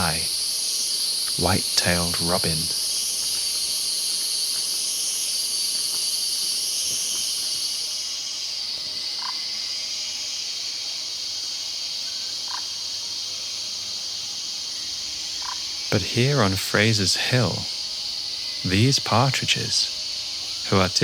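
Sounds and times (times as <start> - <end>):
forest insects chorus: 0.0 - 21.0.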